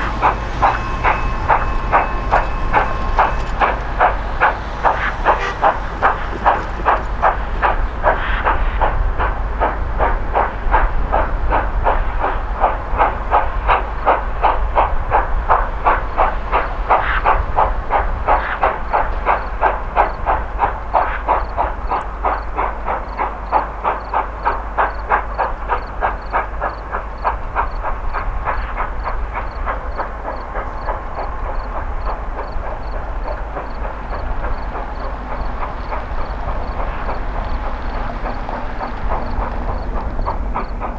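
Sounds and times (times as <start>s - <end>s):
steam locomotive chuffing: 0.0s - 40.9s.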